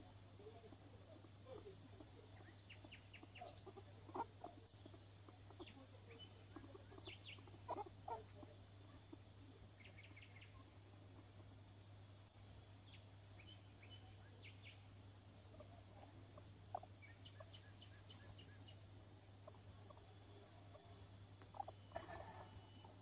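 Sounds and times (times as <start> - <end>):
guinea pig squeaking: 0.4 - 11.4, 12.5 - 23.0.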